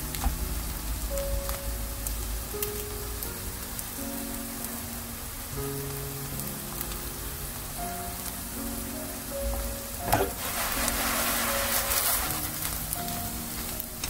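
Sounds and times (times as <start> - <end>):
pancake sizzling in oil: 0.0 - 14.0
soft background music: 0.0 - 14.0.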